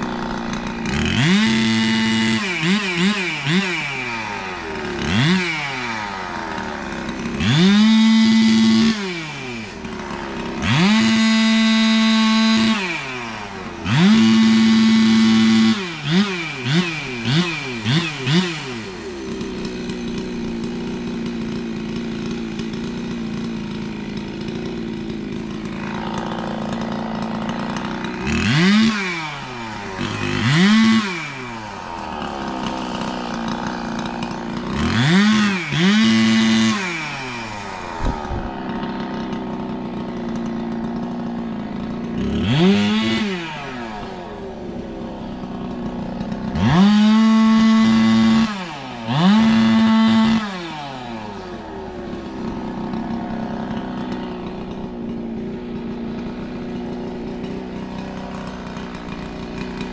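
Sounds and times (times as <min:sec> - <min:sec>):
chainsaw idling: 0:00.0 - 0:59.9
chainsaw revving: 0:00.0 - 0:59.9.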